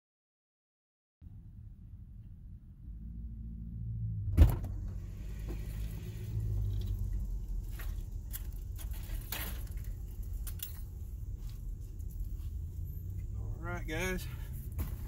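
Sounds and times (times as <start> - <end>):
low steady rumble: 1.2 - 15.0.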